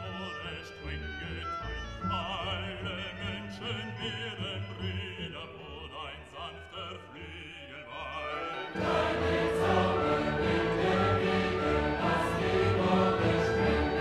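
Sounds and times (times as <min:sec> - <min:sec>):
operatic voice singing with vibrato: 0:00.0 - 0:14.0
soft musical accompaniment: 0:00.0 - 0:14.0.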